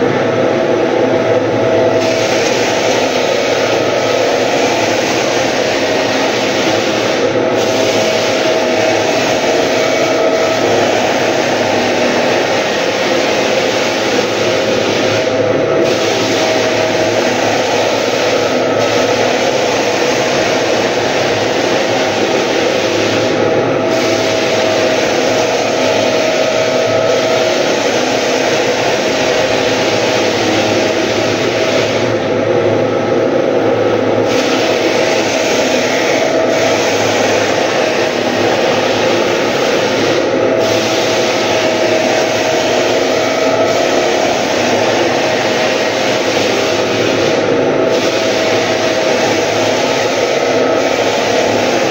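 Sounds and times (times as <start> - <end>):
floor sander motor hum: 0.0 - 51.9
sanding drum grinding hiss: 1.9 - 32.2, 34.2 - 51.9.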